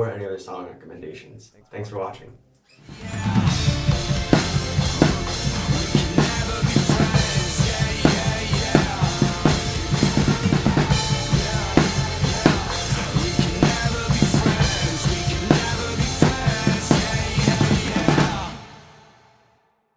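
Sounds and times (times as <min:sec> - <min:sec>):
backing rock track: 0:02.8 - 0:19.2
drum kit playing: 0:02.9 - 0:19.2.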